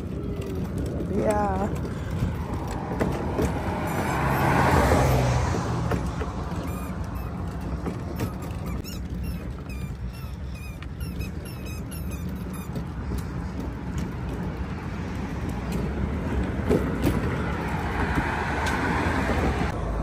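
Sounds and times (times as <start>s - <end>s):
car tyre noise: 0.0s - 20.0s
road traffic rumble: 0.0s - 20.0s.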